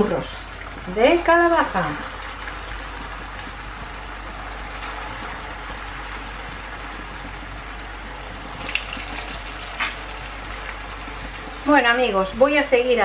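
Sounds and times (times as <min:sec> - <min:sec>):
dough deep-frying in hot oil: 0:00.0 - 0:13.0.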